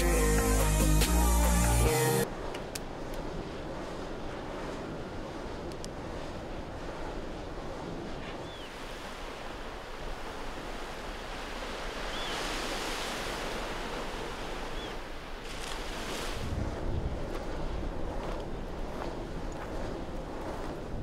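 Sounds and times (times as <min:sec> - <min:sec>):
sea surf: 0:00.0 - 0:21.0
wind: 0:00.0 - 0:21.0
wind buffeting microphone: 0:02.2 - 0:21.0.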